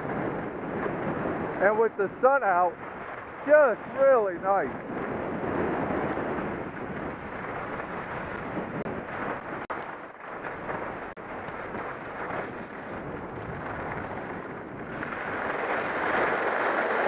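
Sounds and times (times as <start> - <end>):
skis scraping over snow: 0.0 - 17.0
wind rushing over microphone: 0.0 - 17.0.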